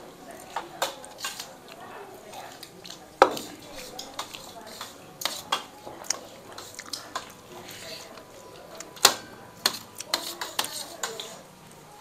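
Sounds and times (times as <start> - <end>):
spoon clinking on metal plates: 0.4 - 1.6, 2.4 - 11.4.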